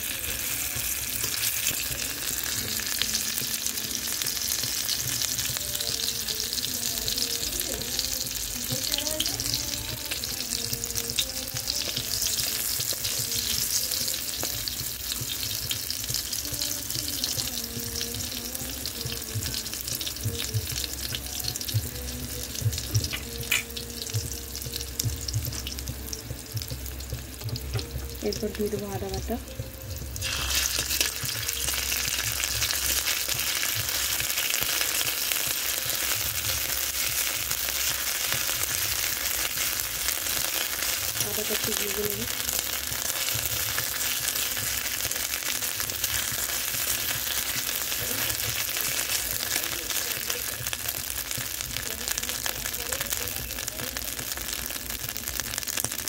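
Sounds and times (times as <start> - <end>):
chillies sizzling in hot oil: 0.0 - 56.0.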